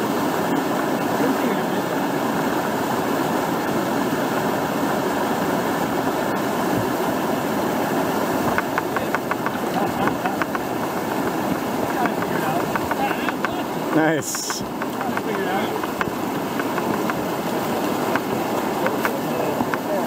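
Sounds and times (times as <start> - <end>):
river whitewater rushing: 0.0 - 20.0.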